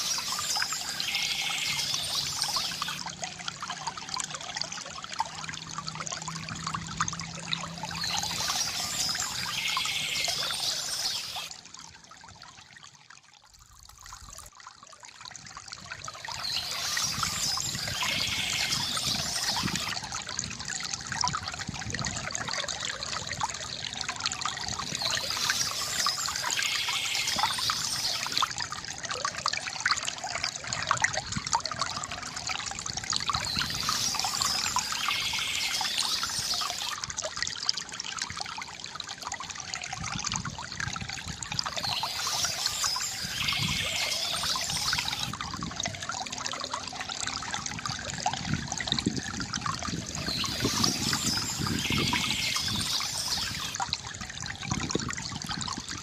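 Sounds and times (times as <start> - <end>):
water trickling from fountain: 0.0 - 56.0.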